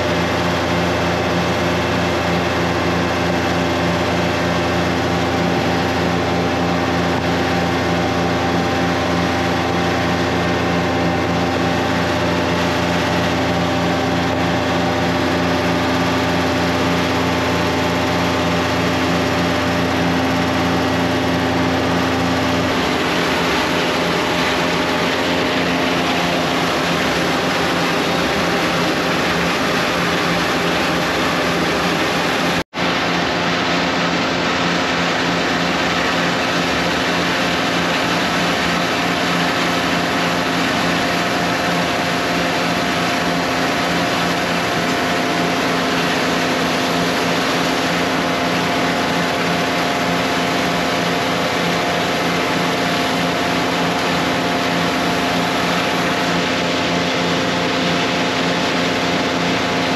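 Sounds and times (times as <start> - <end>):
tanker engine and pumps droning: 0.0 - 59.9
water spraying from hose: 0.0 - 59.9.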